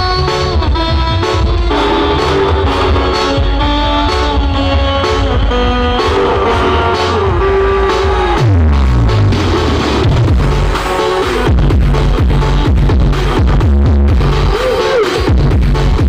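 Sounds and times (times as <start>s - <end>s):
melodic lead line: 0.0s - 15.3s
loud bass-heavy music: 0.0s - 16.0s.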